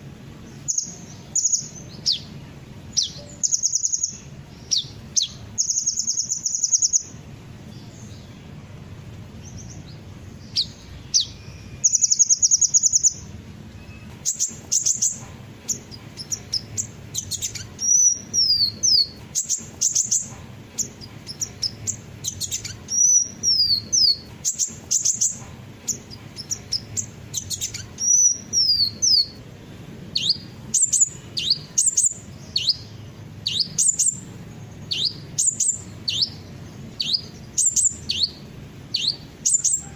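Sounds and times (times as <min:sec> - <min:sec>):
buzzy bird trill: 0:00.0 - 0:39.9
steady low hum: 0:00.0 - 0:39.9
sunbirds chirping: 0:00.0 - 0:39.9.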